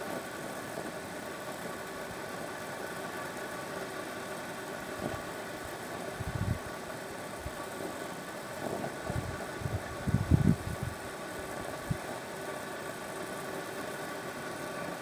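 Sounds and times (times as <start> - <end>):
water heating with bubbling rumble: 0.0 - 15.0.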